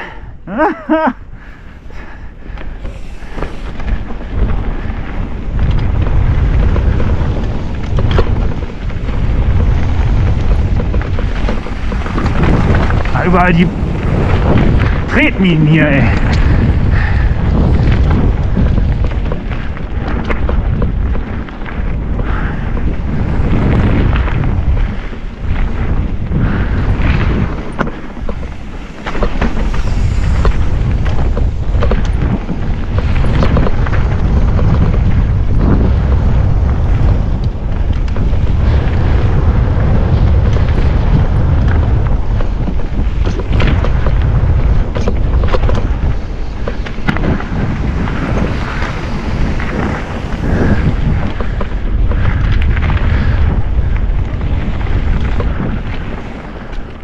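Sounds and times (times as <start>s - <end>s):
wind buffeting microphone: 0.0s - 57.0s
bike clattering on rough ground: 0.9s - 57.0s.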